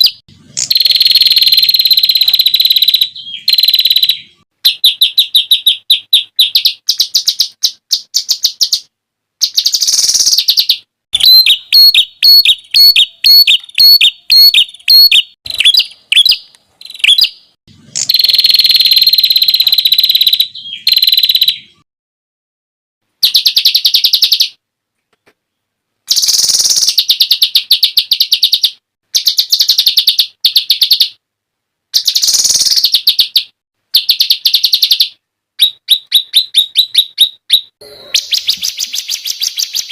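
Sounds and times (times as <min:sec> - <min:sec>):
songbird song with buzzy trills: 0:00.0 - 0:21.8, 0:23.2 - 0:31.2, 0:31.9 - 0:39.9.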